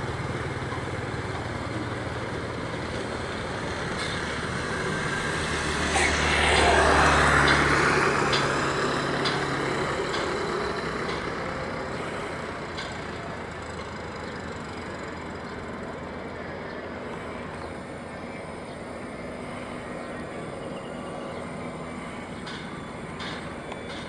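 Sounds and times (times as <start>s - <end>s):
distant helicopter rotor rumble: 0.0s - 24.0s.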